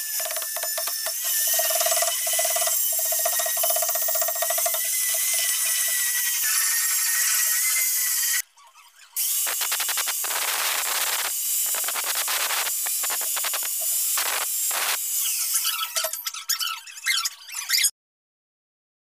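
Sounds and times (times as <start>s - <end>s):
angle grinder grinding wood: 0.0s - 8.4s, 9.1s - 16.3s.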